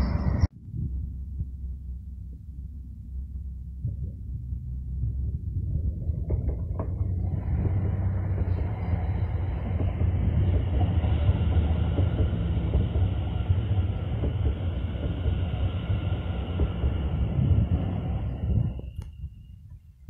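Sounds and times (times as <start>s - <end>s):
high train whine: 0.0s - 20.0s
train wheels rumbling on rail: 0.0s - 20.0s.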